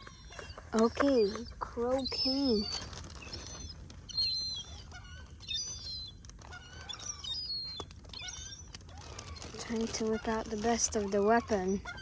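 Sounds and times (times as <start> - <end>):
seagull chicks peeping: 0.0 - 12.0.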